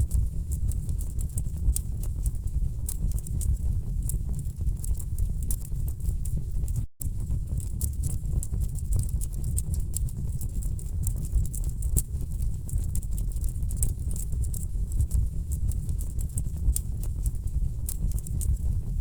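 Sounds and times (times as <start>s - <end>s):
low rumble of burning logs: 0.0s - 19.0s.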